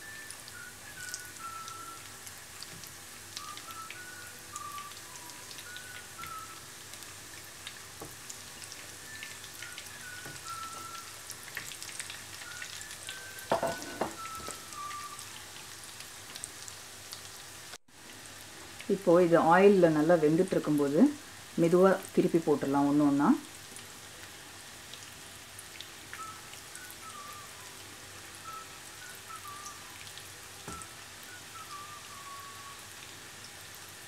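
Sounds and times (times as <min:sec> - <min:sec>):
hot oil sizzling and crackling: 0:00.0 - 0:34.0.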